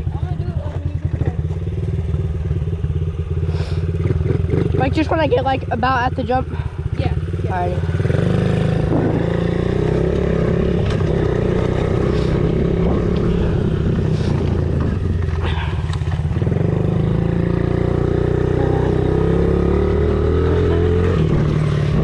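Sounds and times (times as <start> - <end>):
small motorcycle engine revving: 0.8 - 22.0.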